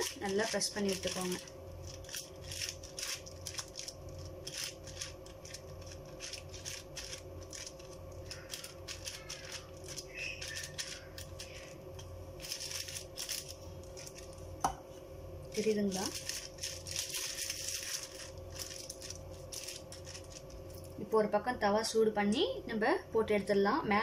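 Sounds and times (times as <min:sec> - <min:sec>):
plastic sheet crinkling: 0:00.0 - 0:14.6, 0:15.5 - 0:21.0
low steady hum: 0:00.0 - 0:24.0.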